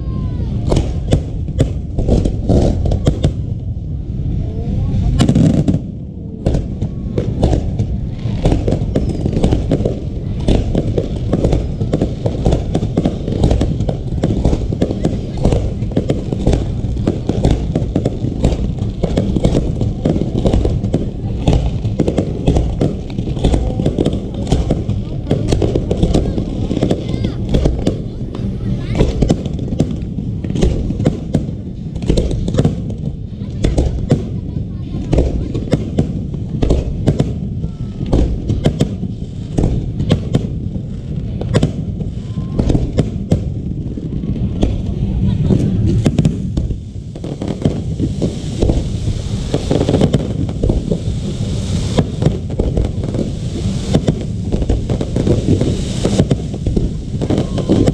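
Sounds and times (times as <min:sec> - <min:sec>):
fireworks bangs and crackles: 0:00.0 - 0:57.9
low rumble: 0:00.0 - 0:57.9.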